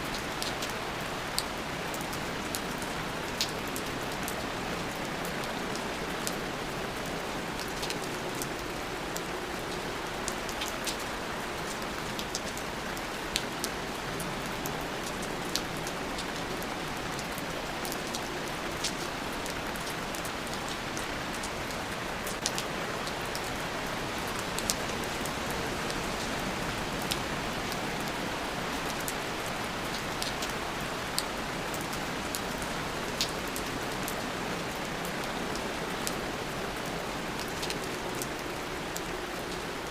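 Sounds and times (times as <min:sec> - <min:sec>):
raindrops ticking close by: 0:00.0 - 0:39.9
steady rain: 0:00.0 - 0:39.9.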